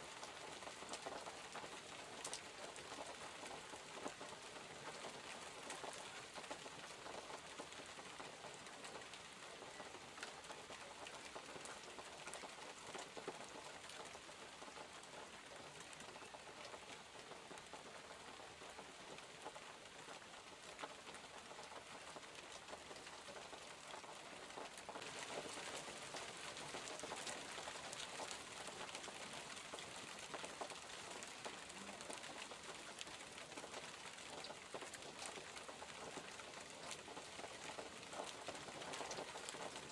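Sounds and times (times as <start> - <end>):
raindrops ticking: 0.0 - 39.9
steady rain hiss: 0.0 - 39.9.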